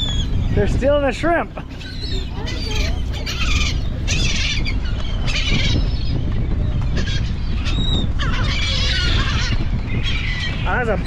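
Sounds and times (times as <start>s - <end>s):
gulls squawking: 0.0s - 11.0s
steady low rumble: 0.0s - 11.0s.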